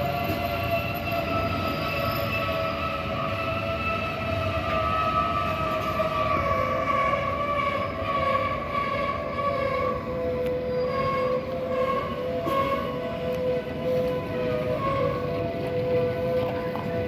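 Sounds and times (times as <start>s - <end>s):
electric train motor whine: 0.0s - 17.0s.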